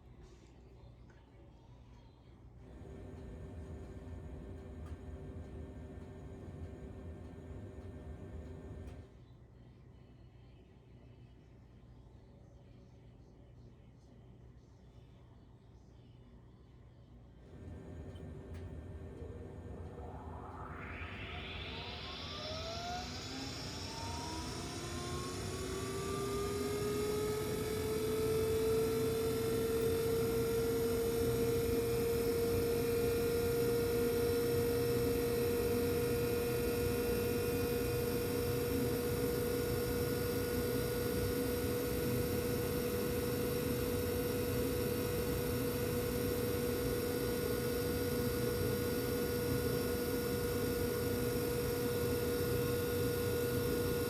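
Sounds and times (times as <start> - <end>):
furnace fan motor whine and hum: 0.0 - 54.0.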